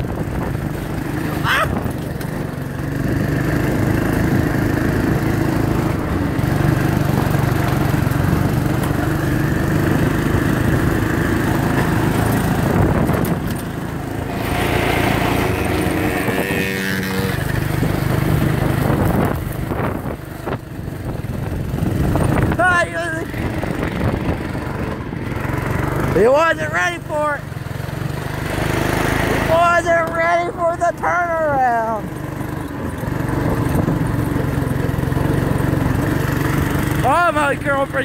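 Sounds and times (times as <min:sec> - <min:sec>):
go-kart engine running: 0:00.0 - 0:38.0.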